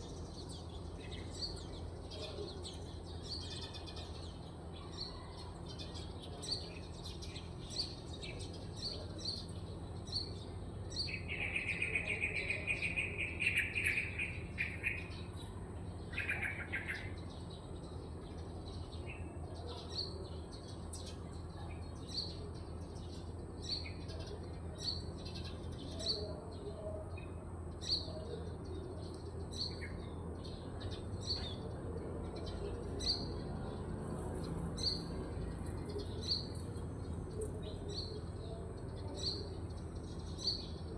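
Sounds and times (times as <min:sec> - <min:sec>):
bird high chirp: 0:00.0 - 0:33.8.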